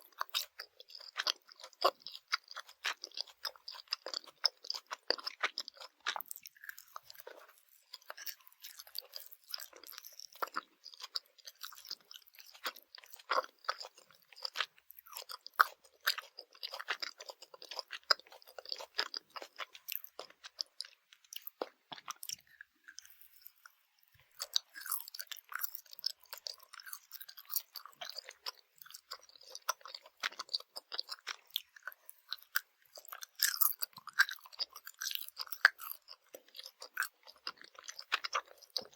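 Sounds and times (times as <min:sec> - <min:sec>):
chewing gummy candy: 0:00.0 - 0:38.9.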